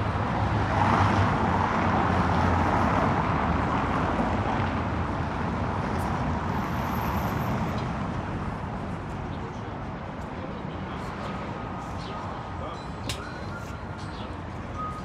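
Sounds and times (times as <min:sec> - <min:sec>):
cars passing: 0:00.0 - 0:15.0
steady street hum: 0:00.0 - 0:15.0.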